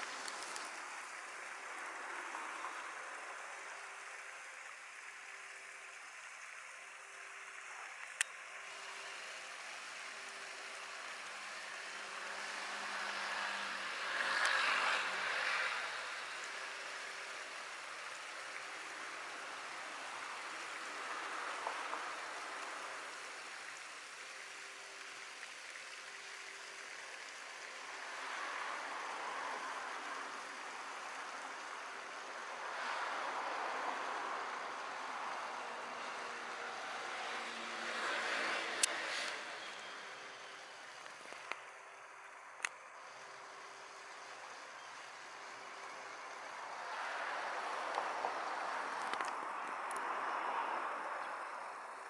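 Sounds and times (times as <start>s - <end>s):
faint steady hum: 0.0s - 52.0s
flowing water rushing: 0.0s - 52.0s.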